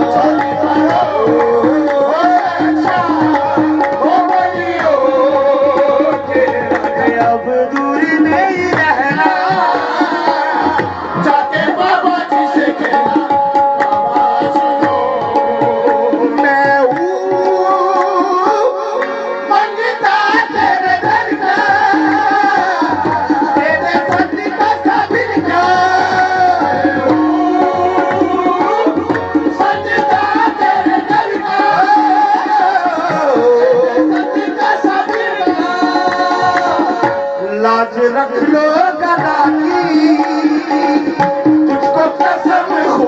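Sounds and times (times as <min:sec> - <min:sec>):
man singing into microphone: 0:00.0 - 0:43.0
steady held accompaniment: 0:00.0 - 0:43.0.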